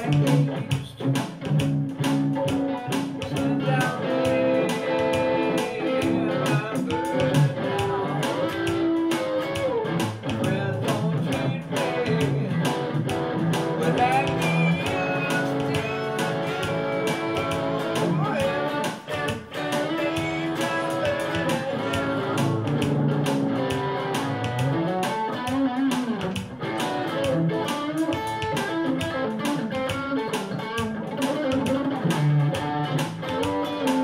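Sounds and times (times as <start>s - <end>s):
electric guitar with bent notes: 0.0s - 34.0s
steady beat: 0.0s - 34.0s.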